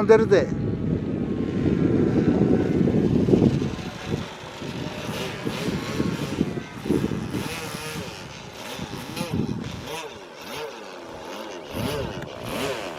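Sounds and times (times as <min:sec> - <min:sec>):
propeller plane engine: 0:00.0 - 0:12.9.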